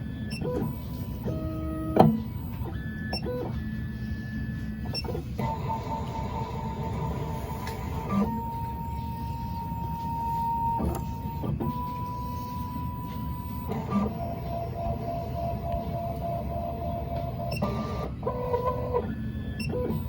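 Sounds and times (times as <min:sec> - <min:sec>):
machine motors whining: 0:00.0 - 0:20.0.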